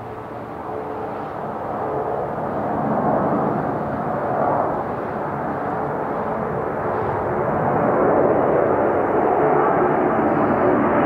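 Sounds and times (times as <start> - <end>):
jet engines rumbling overhead: 0.0 - 11.0.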